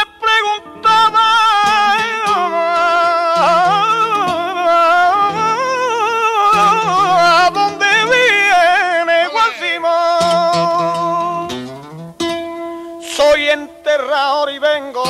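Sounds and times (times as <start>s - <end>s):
man singing ornamented line: 0.0s - 11.6s, 13.0s - 15.0s
acoustic guitar accompaniment: 0.0s - 15.0s.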